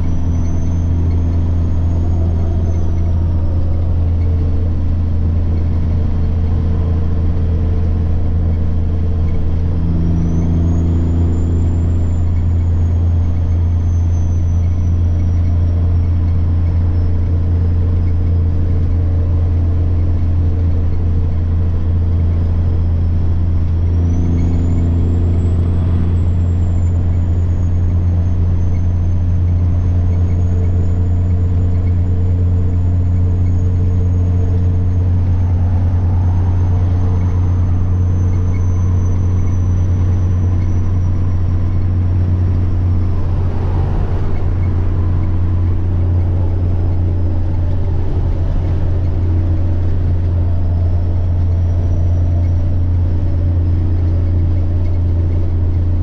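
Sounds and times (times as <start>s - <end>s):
diesel truck engine drone: 0.0s - 56.0s
turbocharger whine: 0.0s - 56.0s.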